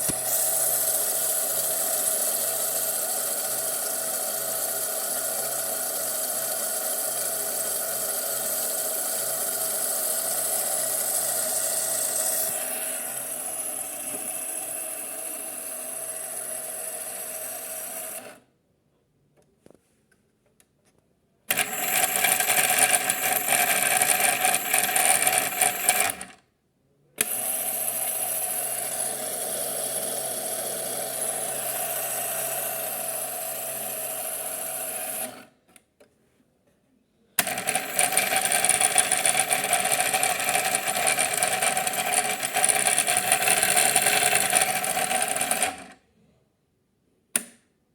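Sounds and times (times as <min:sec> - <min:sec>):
toy motor whining: 0:00.0 - 0:18.4, 0:21.5 - 0:26.4, 0:27.2 - 0:35.5, 0:37.4 - 0:46.0.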